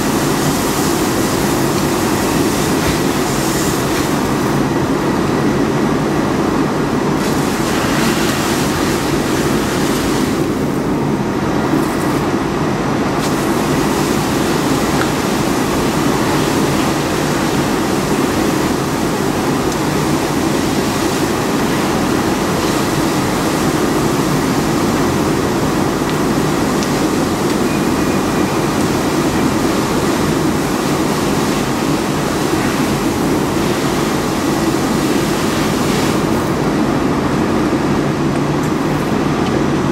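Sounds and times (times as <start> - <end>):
hose spraying water: 0.0 - 4.7, 7.1 - 10.8, 13.2 - 36.8
fire engine pump rumbling: 0.0 - 39.9.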